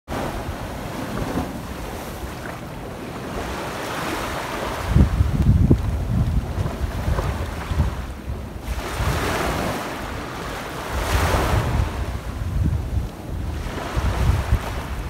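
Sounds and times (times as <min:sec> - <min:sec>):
small waves washing on beach: 0:00.1 - 0:15.0
wind buffeting microphone: 0:00.1 - 0:15.0.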